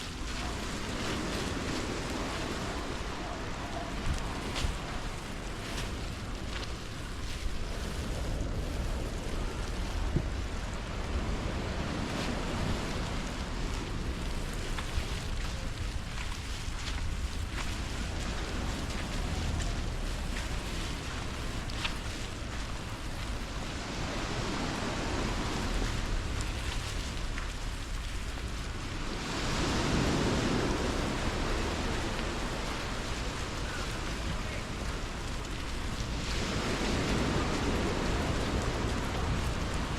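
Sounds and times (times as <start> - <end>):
heavy rain: 0.0 - 39.9
surf on the beach: 0.0 - 39.9
wind buffeting the microphone: 0.0 - 39.9.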